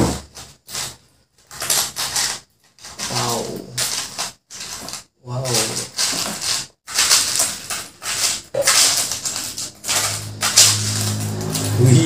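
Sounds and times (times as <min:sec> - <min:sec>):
ice cubes clattering: 0:00.0 - 0:12.0.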